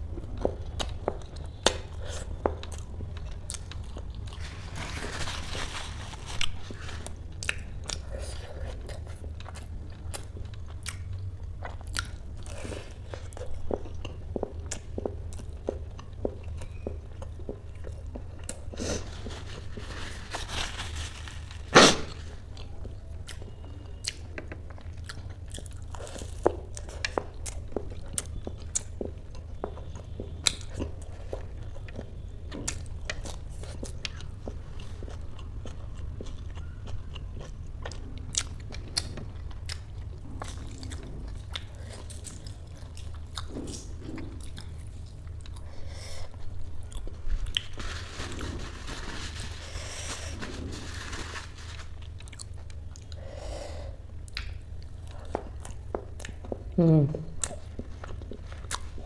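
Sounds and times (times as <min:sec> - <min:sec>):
crunchy food chewing: 0:00.2 - 0:53.3, 0:54.2 - 0:59.0.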